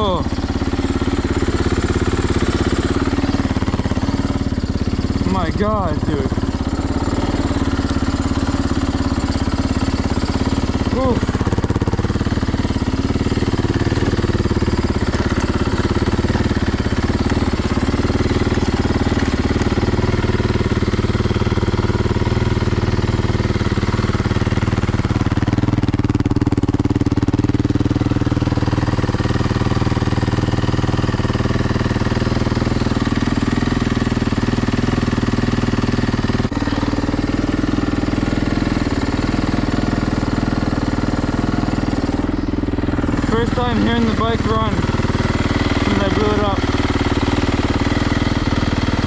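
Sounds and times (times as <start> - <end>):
motorcycle engine idling: 0.0 - 49.0.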